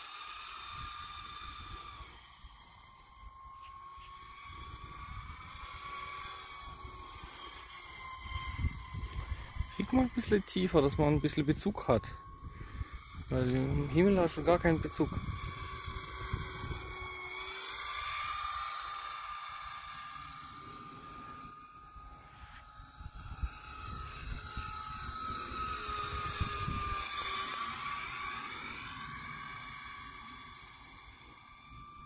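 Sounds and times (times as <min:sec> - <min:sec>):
model jet motor whine: 0:00.0 - 0:32.0.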